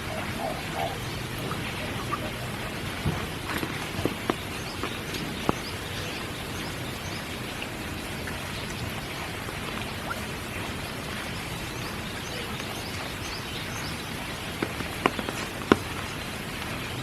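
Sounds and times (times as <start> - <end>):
close sharp drips: 0.0 - 17.0
steady rain falling: 0.0 - 17.0.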